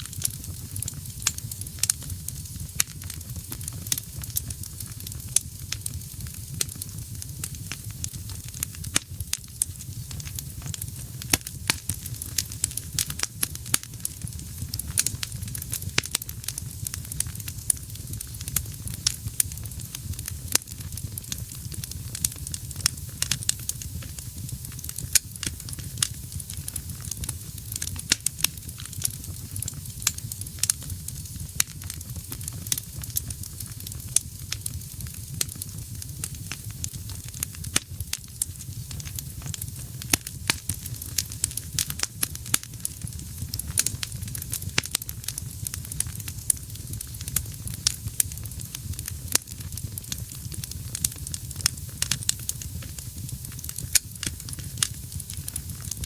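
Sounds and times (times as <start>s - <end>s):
burning logs crackling and popping: 0.0s - 56.0s
low rumble of flames: 0.0s - 56.0s.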